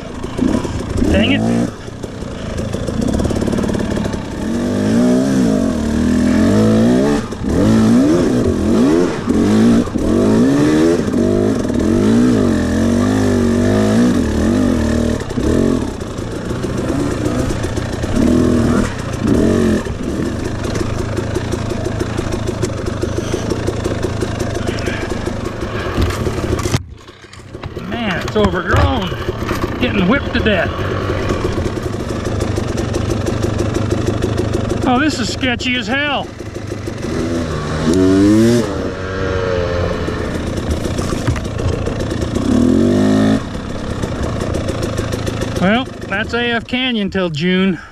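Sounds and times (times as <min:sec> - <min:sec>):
dirt bike engine revving: 0:00.0 - 0:47.2.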